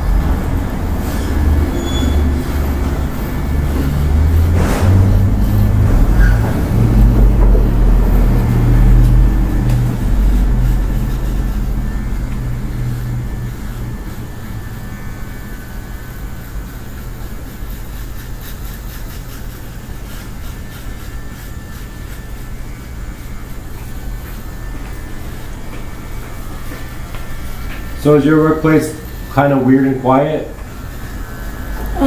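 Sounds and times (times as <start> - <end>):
electric hair clippers buzzing: 0.0 - 32.0.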